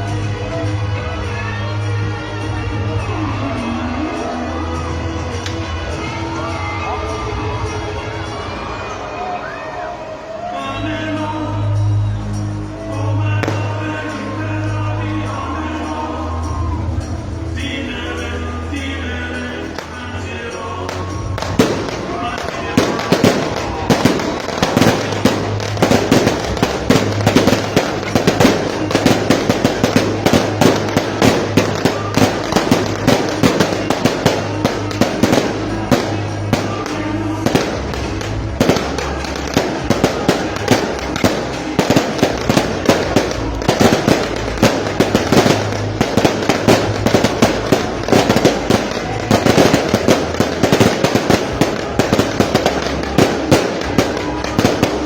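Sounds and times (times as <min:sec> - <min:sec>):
firecrackers banging: 0:00.0 - 0:09.0, 0:10.9 - 0:55.0
music playing: 0:00.0 - 0:55.0.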